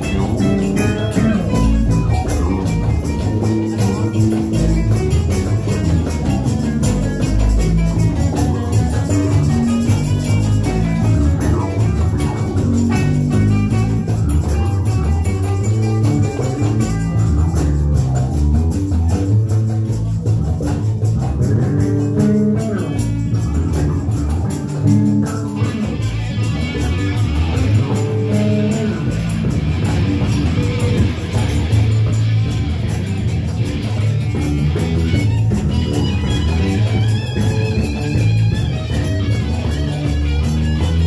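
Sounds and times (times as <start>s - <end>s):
electric bass notes: 0.0s - 41.0s
electric guitar: 0.0s - 41.0s.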